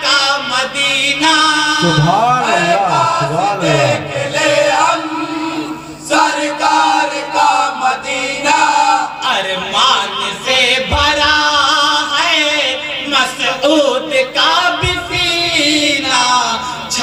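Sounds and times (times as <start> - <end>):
men chanting into microphones: 0.0 - 17.0.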